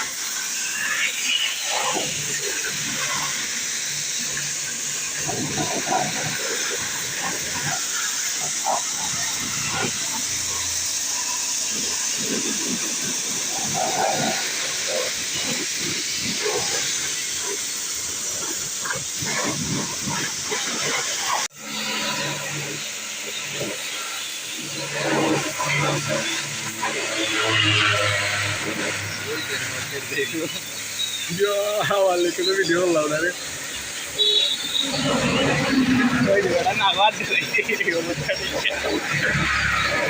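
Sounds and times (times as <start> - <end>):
pressure washer hissing: 0.0 - 40.0
water spattering on metal: 0.0 - 40.0.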